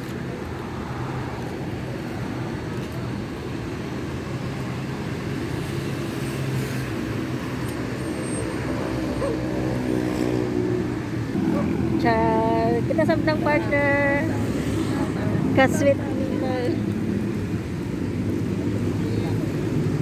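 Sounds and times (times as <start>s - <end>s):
street traffic engines humming: 0.0s - 20.0s.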